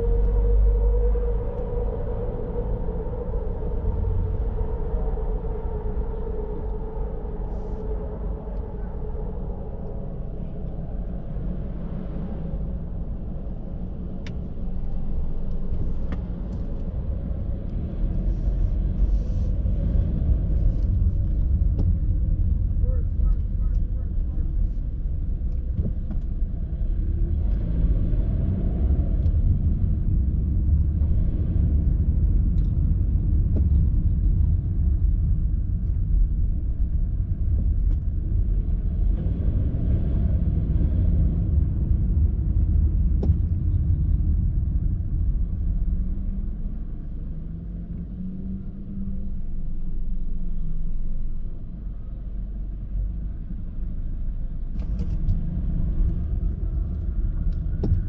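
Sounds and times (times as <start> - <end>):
road vehicle rumble: 0.0 - 58.0.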